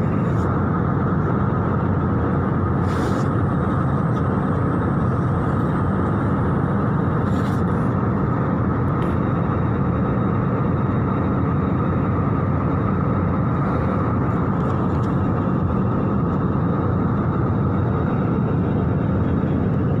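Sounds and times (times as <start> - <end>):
airliner cabin engine rush: 0.0 - 20.0.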